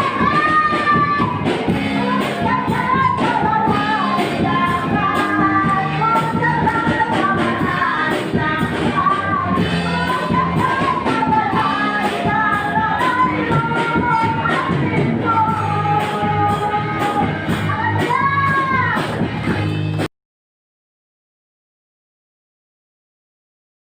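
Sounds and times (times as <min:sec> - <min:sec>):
song with singing over a beat: 0:00.0 - 0:20.1.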